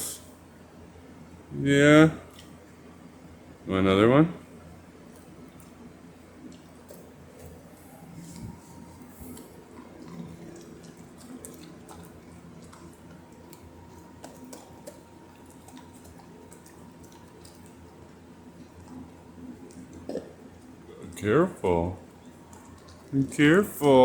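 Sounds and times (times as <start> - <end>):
dog chewing: 4.6 - 24.0.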